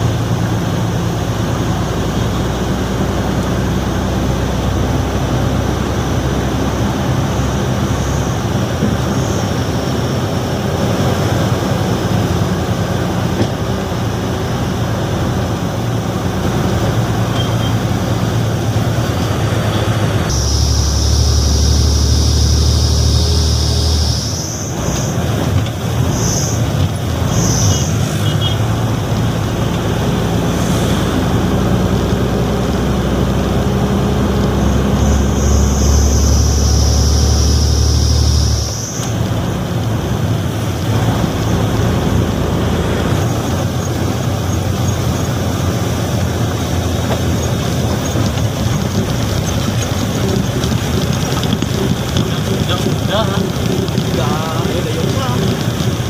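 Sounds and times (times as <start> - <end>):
high engine whine: 0.0 - 56.0
truck engine running: 0.0 - 56.0.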